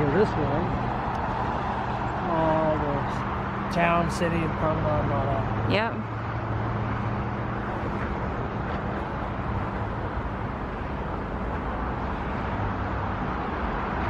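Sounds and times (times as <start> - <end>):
road traffic rush: 0.0 - 14.0.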